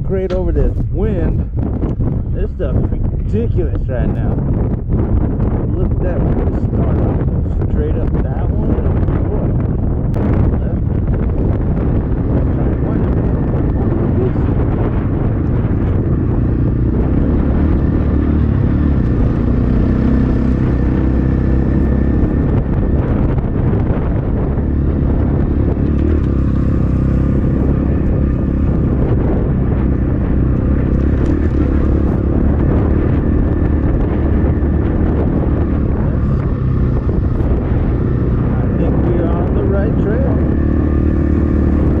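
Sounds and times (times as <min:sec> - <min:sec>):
dirt bike engine running: 0:00.0 - 0:42.0
wind buffeting microphone: 0:00.0 - 0:42.0.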